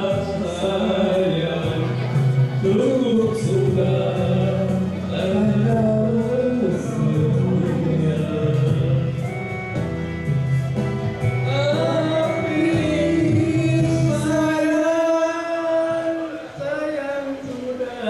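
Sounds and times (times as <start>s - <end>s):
man and woman singing duet: 0.0s - 9.3s, 11.5s - 18.0s
amplified backing track: 0.0s - 18.0s.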